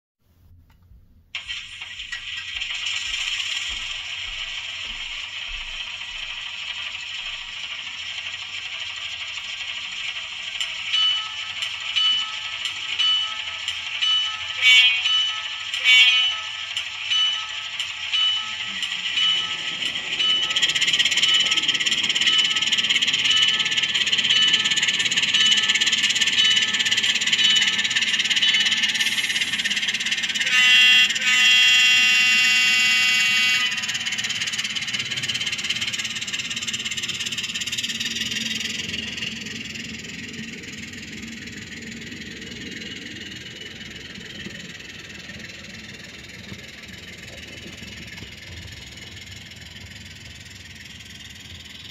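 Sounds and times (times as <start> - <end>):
model train running on track: 1.4 - 51.9.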